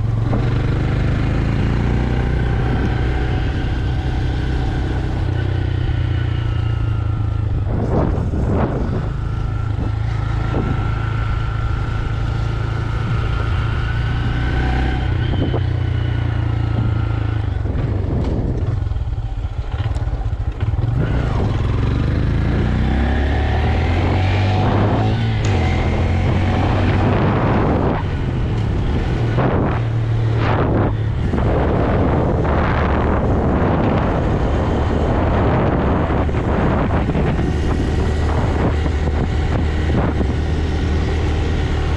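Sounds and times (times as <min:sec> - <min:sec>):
motorcycle engine riding: 0:00.0 - 0:41.9.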